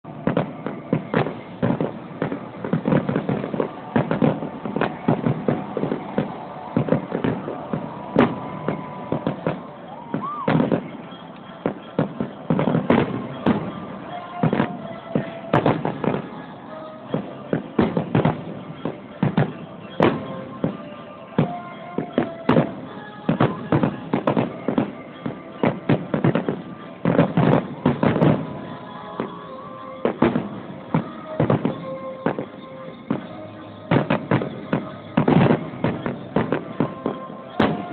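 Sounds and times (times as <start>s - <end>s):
fireworks bursting: 0.0s - 37.9s.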